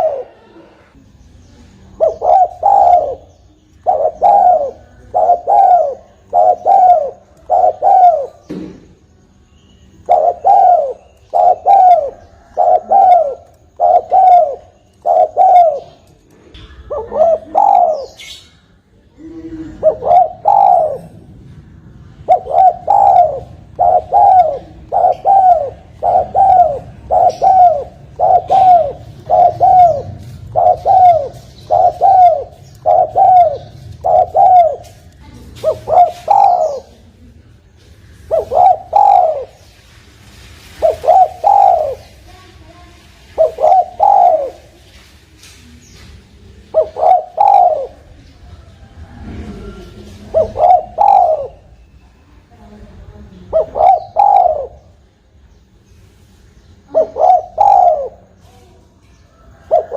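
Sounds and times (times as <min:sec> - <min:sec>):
dove cooing: 0:00.0 - 0:01.0, 0:01.9 - 0:08.8, 0:10.0 - 0:18.5, 0:19.1 - 0:39.6, 0:40.7 - 0:42.2, 0:43.3 - 0:44.9, 0:46.6 - 0:51.8, 0:53.4 - 0:55.0, 0:56.8 - 0:58.5, 0:59.3 - 0:59.9.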